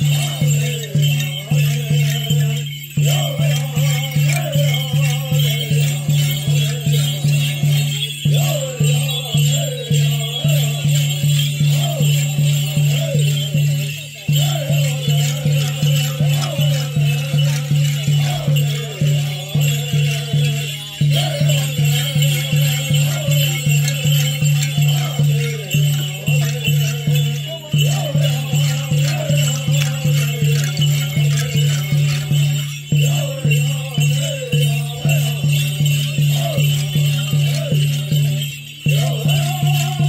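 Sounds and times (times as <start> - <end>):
bells and rattles jingling: 0.0 - 40.0
chanted singing: 0.0 - 40.0
steady drum beat: 0.0 - 40.0.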